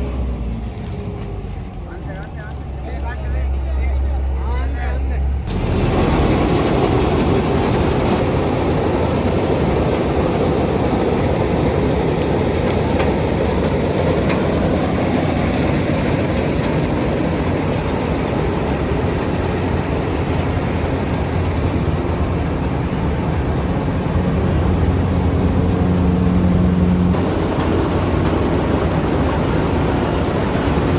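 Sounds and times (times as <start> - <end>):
diesel engine running steadily: 0.0 - 30.9.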